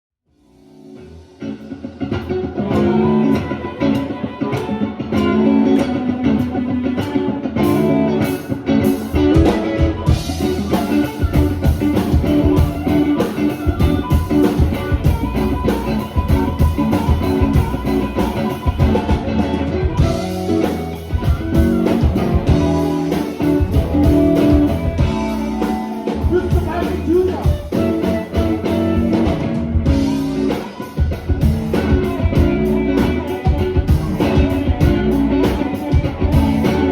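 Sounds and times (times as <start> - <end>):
electric guitar: 0.3 - 36.9
live blues band playing: 0.5 - 36.9.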